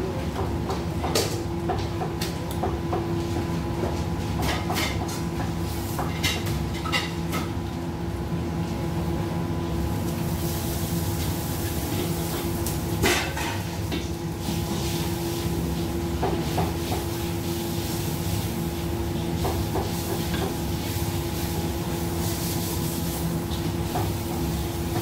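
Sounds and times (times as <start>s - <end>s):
gas burner rumble: 0.0s - 25.0s.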